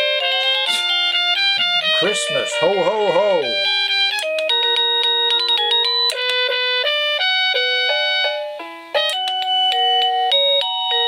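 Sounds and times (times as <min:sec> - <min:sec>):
doorbell chime melody: 0:00.0 - 0:11.0.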